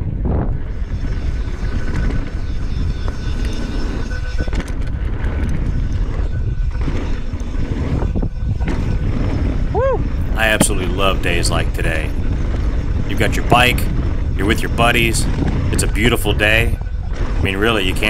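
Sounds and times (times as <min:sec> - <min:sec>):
bike clicks and rattles: 0:00.0 - 0:18.0
tyre noise on dirt trail: 0:00.0 - 0:18.0
wind rumbling on microphone: 0:00.0 - 0:18.0.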